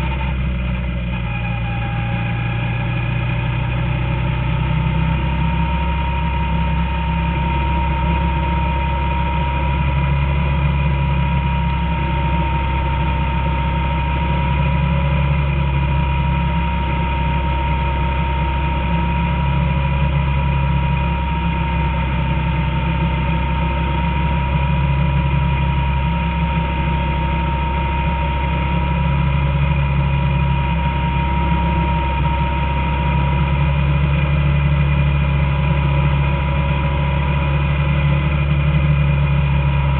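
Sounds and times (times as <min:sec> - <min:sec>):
race car engine: 0:00.0 - 0:39.9
steady high whine: 0:00.0 - 0:39.9.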